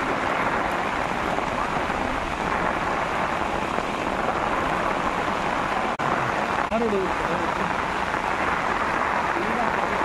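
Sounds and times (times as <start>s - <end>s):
rain falling on water: 0.0s - 10.0s.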